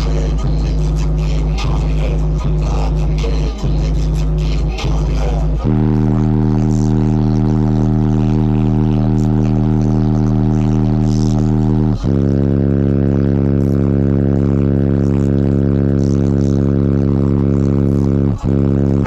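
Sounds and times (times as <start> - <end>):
subwoofers playing held bass note: 0.0 - 19.0.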